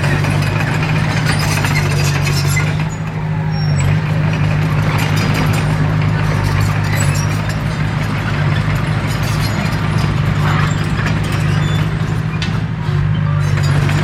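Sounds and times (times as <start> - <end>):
bulldozer diesel engine drone: 0.0 - 14.0.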